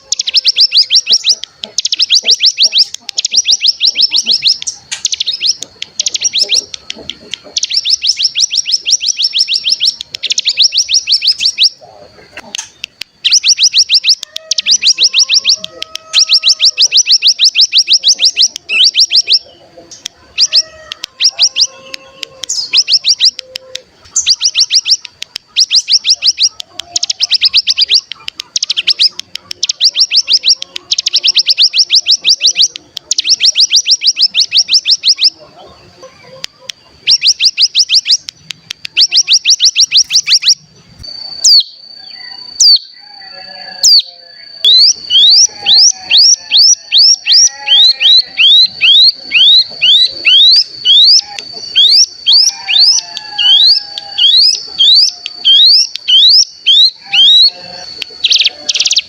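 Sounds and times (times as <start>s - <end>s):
high bird whistle: 0.0s - 7.0s, 7.6s - 11.8s, 12.6s - 19.6s, 20.4s - 23.4s, 24.2s - 35.4s, 37.0s - 59.0s
bird trilling: 0.0s - 59.0s
rising bird chirps: 0.0s - 59.0s.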